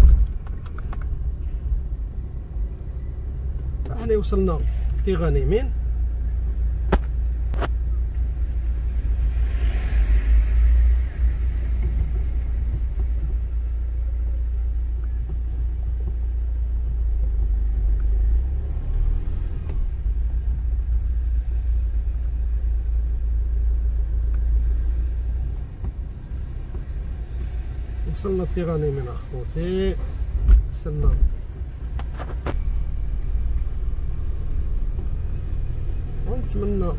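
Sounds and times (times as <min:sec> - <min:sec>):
car engine and road rumble: 0:00.0 - 0:36.9.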